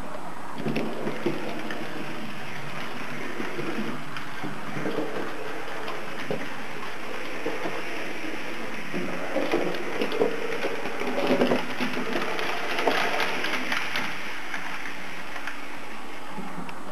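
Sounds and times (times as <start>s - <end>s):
wheels clicking over rails: 0.0s - 16.9s
model train motor whirring: 0.6s - 16.9s.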